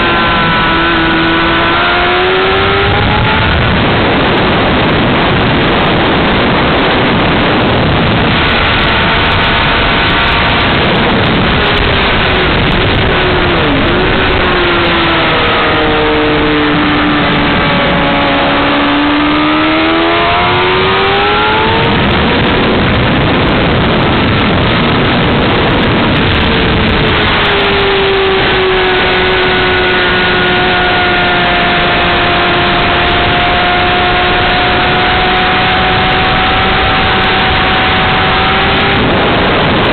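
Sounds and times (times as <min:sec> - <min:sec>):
motorcycle engine at speed: 0:00.0 - 0:39.9
wind rush on microphone: 0:00.0 - 0:39.9.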